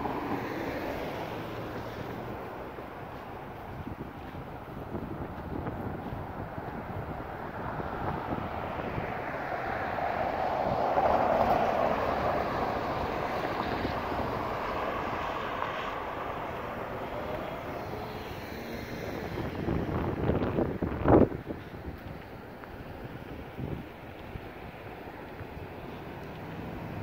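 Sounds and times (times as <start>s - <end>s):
city traffic din: 0.0s - 27.0s
vehicle passing: 0.0s - 27.0s.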